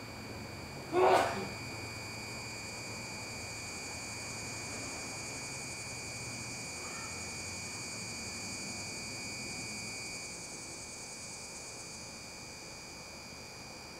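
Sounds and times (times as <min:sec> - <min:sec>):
insects trilling: 0:00.0 - 0:13.9
low outdoor hum: 0:00.0 - 0:13.9.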